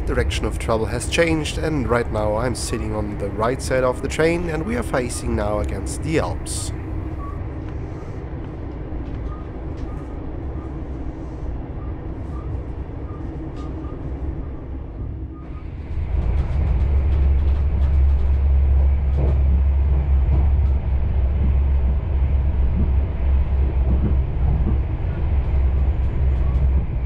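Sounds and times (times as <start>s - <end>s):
heavy deep rumble: 0.0s - 27.0s
train wheels rumbling on track: 0.0s - 27.0s.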